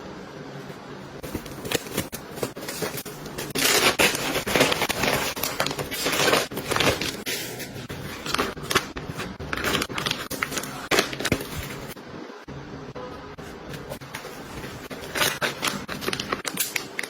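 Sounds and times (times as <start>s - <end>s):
crinkling and rustling: 1.2s - 12.0s, 13.4s - 17.0s.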